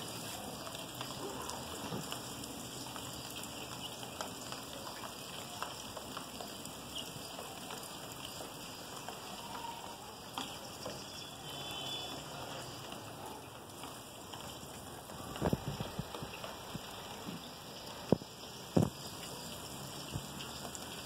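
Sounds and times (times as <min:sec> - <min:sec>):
rain on a concrete rooftop: 0:00.0 - 0:21.0.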